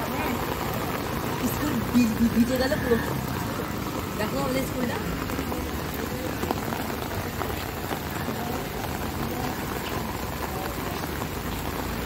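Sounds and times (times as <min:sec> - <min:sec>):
rain on wet road: 0:00.0 - 0:12.0.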